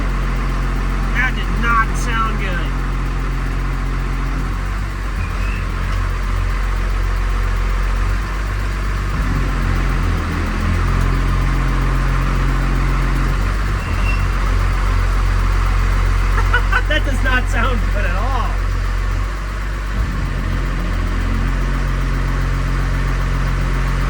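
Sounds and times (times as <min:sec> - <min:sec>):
diesel engine running: 0:00.0 - 0:24.0
drivetrain noise: 0:00.0 - 0:24.0.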